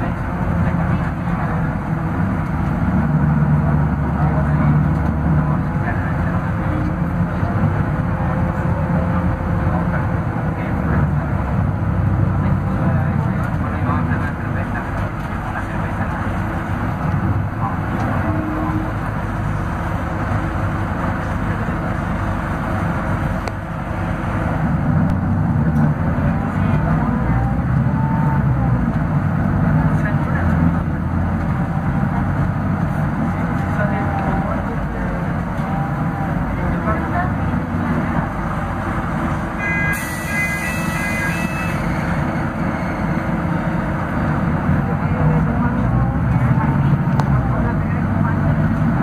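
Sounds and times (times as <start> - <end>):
bus engine drone: 0.0 - 49.0.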